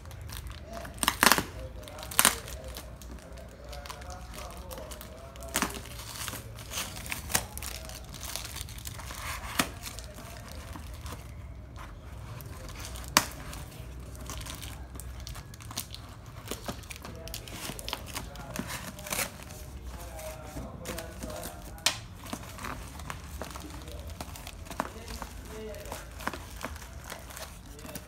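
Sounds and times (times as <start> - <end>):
plastic wrap crinkling: 0.0 - 28.0.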